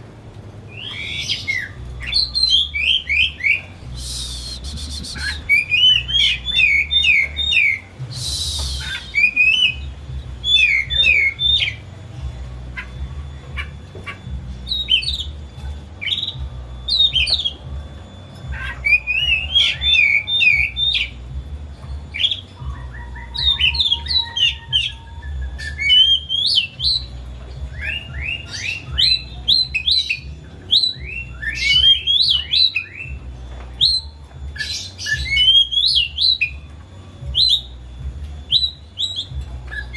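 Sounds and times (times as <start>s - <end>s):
steady low hum: 0.0s - 39.9s
bird singing whistled notes: 0.7s - 12.0s, 12.8s - 39.9s.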